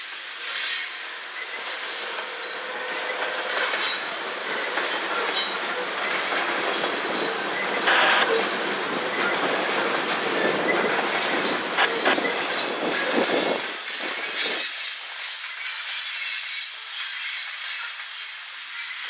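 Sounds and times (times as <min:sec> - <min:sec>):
freight train rolling past: 0:00.0 - 0:19.0
steel wheels clacking on rail: 0:00.0 - 0:19.0.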